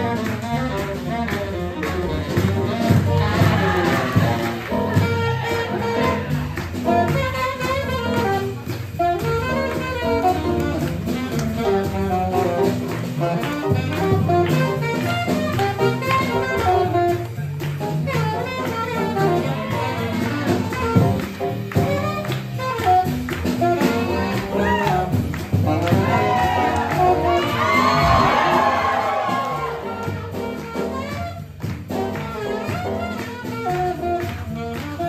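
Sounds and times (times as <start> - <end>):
piano: 0.0 - 35.0
swing jazz band playing: 0.0 - 35.0.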